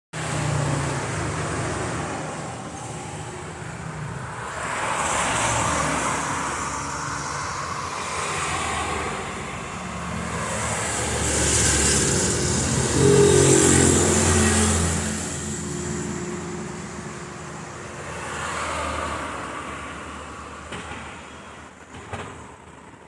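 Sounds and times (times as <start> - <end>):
motor traffic rumble: 0.2 - 23.0.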